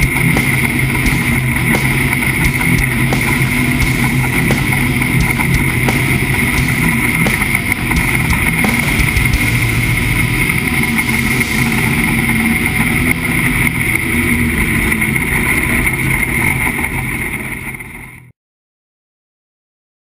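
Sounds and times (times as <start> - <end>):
boat engine idling: 0.0 - 18.3.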